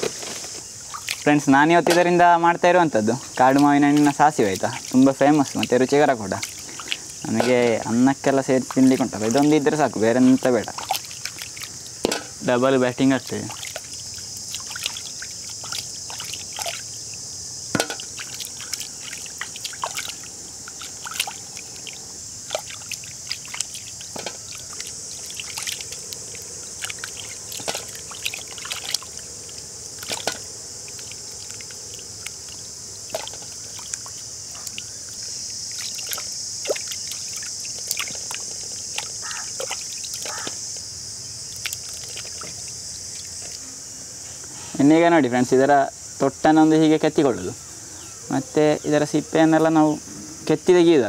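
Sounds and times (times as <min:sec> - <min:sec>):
fruit being washed in water: 0:00.0 - 0:43.6
high-pitched insect drone: 0:00.0 - 0:51.0.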